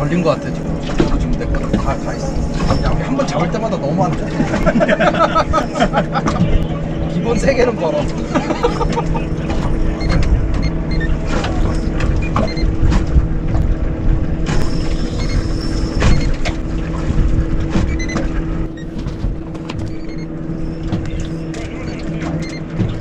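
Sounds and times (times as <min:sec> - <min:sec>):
outboard motor idling: 0:00.0 - 0:23.0.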